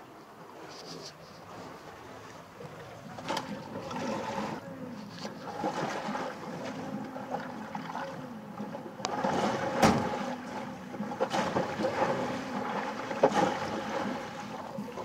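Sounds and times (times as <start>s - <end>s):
water sloshing along hull: 0.0s - 15.0s.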